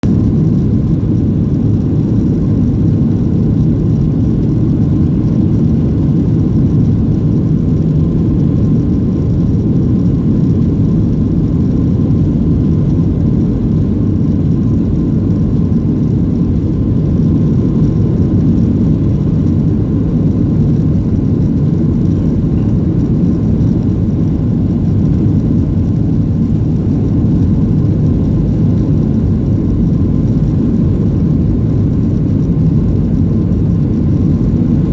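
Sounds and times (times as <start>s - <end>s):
faint steady whine: 0.0s - 34.9s
jet engine rumble in cabin: 0.0s - 34.9s.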